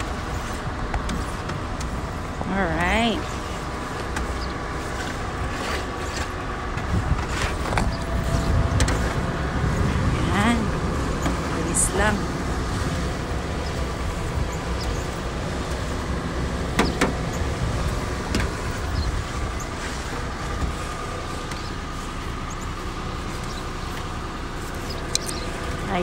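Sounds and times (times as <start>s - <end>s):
car engine idling: 0.0s - 26.0s
brush sweeping snow off car: 3.0s - 26.0s.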